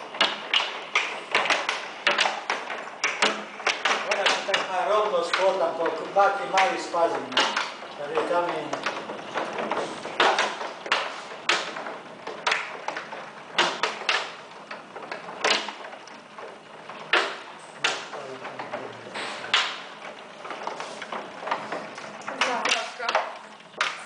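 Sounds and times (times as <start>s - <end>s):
hailstones knocking: 0.0s - 24.0s.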